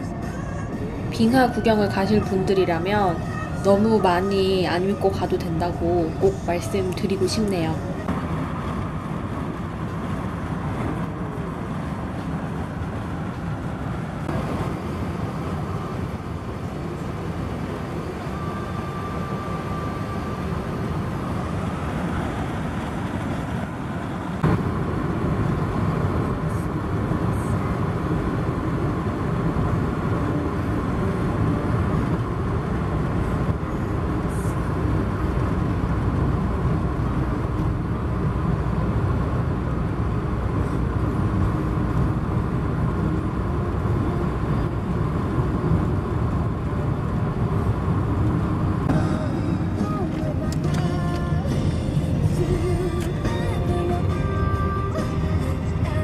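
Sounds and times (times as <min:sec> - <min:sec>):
car cabin road and engine noise: 0:00.0 - 0:56.0.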